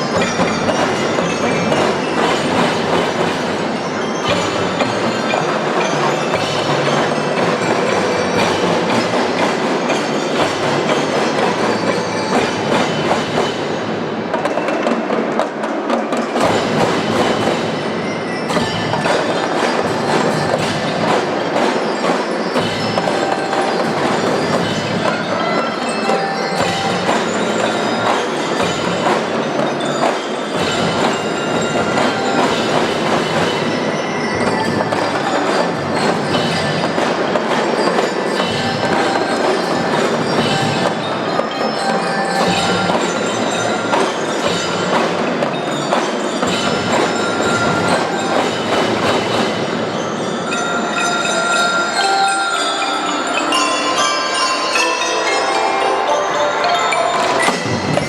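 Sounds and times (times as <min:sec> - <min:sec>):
marching drums clattering: 0:00.0 - 0:54.5, 0:57.2 - 0:58.0
bells ringing a tune: 0:00.0 - 0:58.0.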